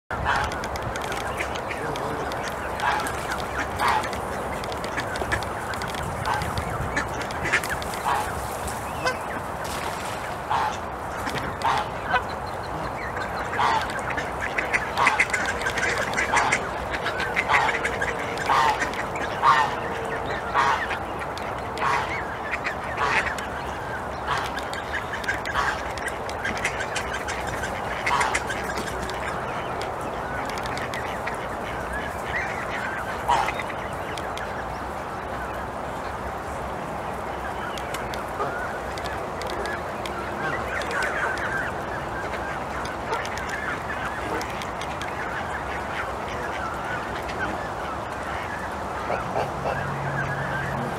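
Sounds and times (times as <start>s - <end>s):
waterfowl calling: 0.1s - 36.3s, 37.3s - 50.9s
steady background noise: 0.1s - 50.9s.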